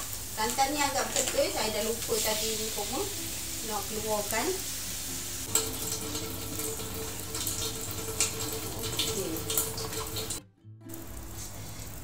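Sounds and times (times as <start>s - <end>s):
meat sizzling in a wok: 0.0s - 10.4s, 11.0s - 12.0s.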